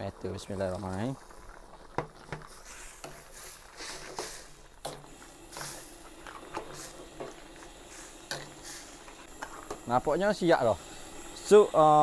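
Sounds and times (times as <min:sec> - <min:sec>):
soup boiling in a pot: 0:00.0 - 0:12.0.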